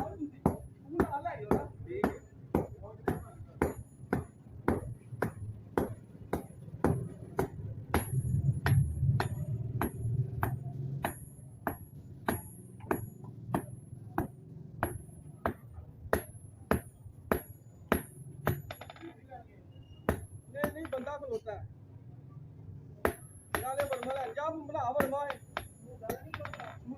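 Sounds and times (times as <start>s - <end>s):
hammer striking iron on anvil: 0.0s - 19.1s, 20.1s - 21.4s, 23.0s - 26.8s.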